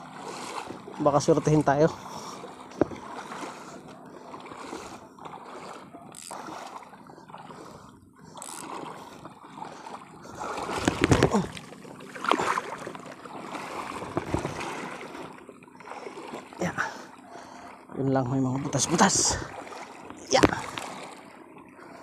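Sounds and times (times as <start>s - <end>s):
seawater sloshing and splashing: 0.0s - 22.0s.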